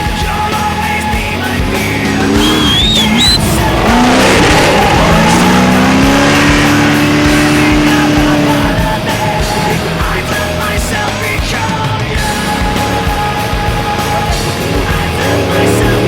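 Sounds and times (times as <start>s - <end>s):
music: 0.0s - 16.0s
truck engine at high revs: 0.0s - 16.0s.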